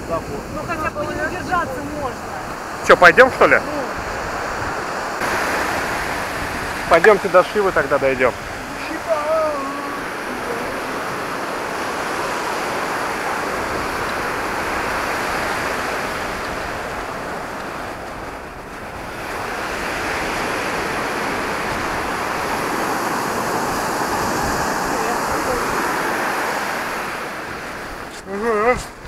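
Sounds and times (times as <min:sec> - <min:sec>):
sea surf on sandy beach: 0:00.0 - 0:29.0
wind buffeting microphone: 0:00.0 - 0:29.0.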